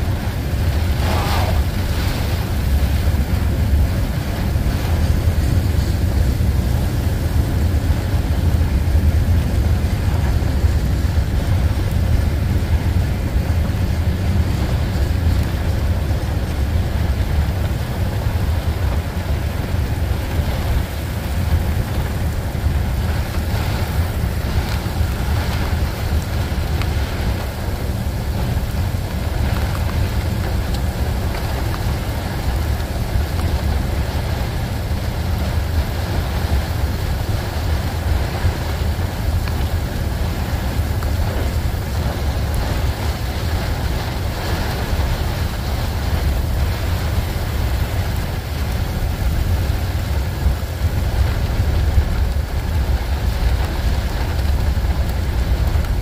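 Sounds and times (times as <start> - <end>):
freight train rumbling past: 0.0 - 56.0
heavy rain: 0.0 - 56.0
wind: 0.0 - 56.0.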